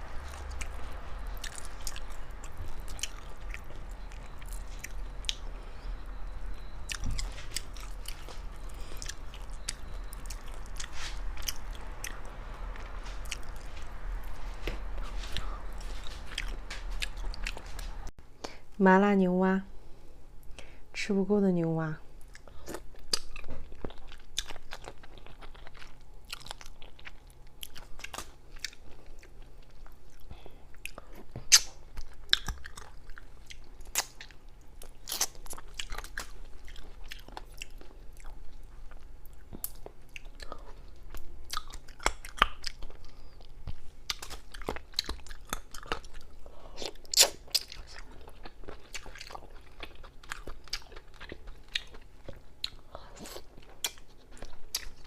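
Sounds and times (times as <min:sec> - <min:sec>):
close chewing and crunching: 0:00.0 - 0:18.1, 0:22.1 - 0:55.0.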